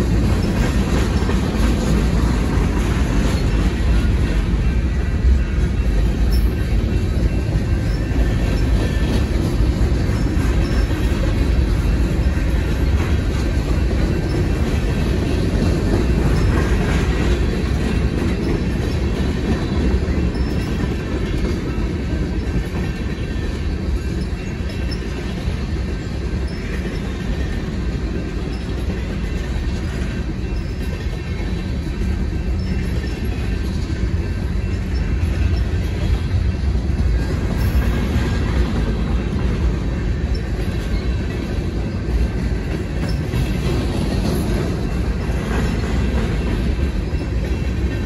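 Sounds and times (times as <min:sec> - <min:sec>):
steel wheels on rails: 0:00.0 - 0:48.0.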